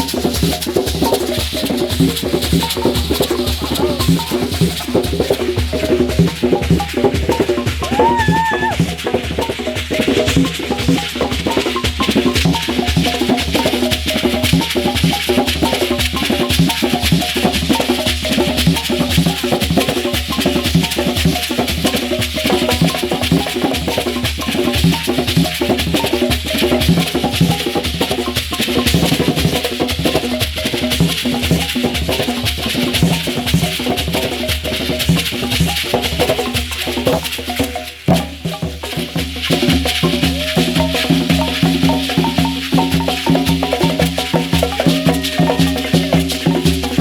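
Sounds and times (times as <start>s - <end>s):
drums: 0.0s - 47.0s
rattling shaker: 0.0s - 47.0s.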